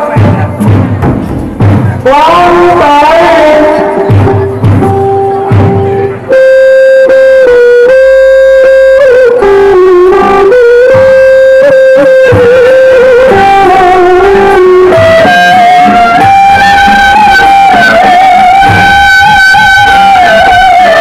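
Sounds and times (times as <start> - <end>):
sliding melody of long held notes: 3.6 - 21.0.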